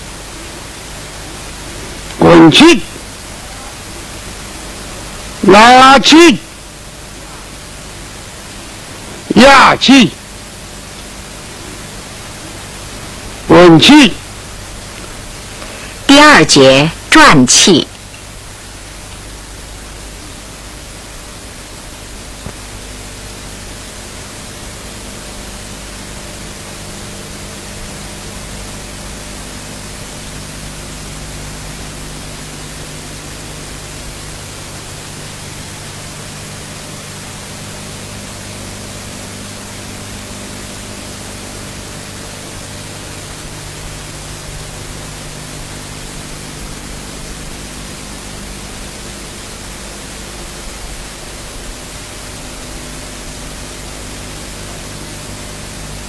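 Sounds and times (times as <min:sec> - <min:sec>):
recording hiss: 0:00.0 - 0:56.0.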